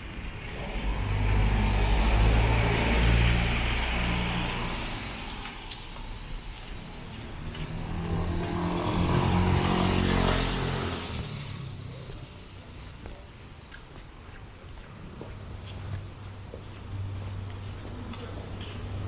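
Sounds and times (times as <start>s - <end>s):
vehicles passing on wet road: 0.0s - 19.0s.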